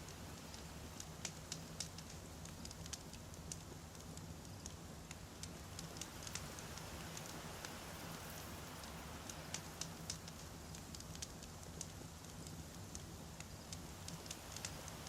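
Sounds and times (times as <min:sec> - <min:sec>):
crackles and pops of burning logs: 0:00.0 - 0:15.0
soft fire hiss: 0:00.0 - 0:15.0.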